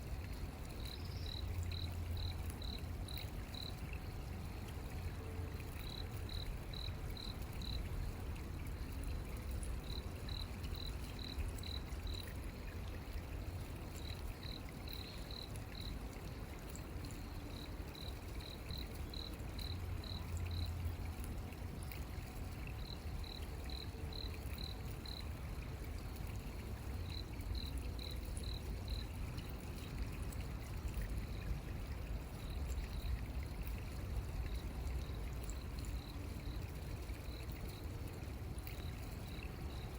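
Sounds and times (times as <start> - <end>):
stream water rumbling: 0.0 - 39.9.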